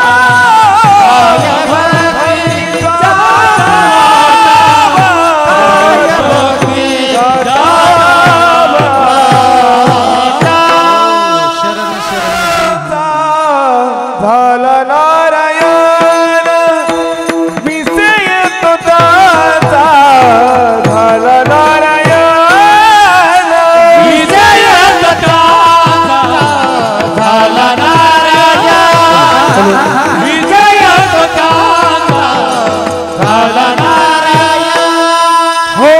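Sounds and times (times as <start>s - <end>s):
drum strokes: 0.0s - 13.3s, 15.3s - 35.9s
men singing in chorus: 0.0s - 35.9s.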